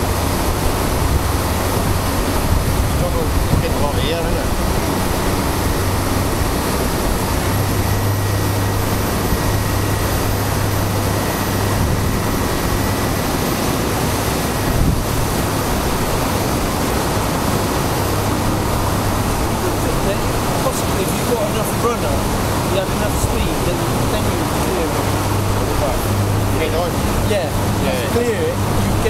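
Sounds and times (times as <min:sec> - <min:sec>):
boat engine humming: 0:00.0 - 0:29.0
weir water roaring: 0:00.0 - 0:29.0.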